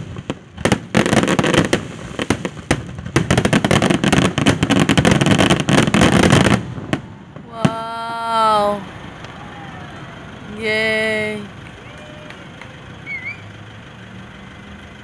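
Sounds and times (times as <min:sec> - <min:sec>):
fireworks bangs: 0:00.0 - 0:13.6
fireworks crackling: 0:00.0 - 0:15.0.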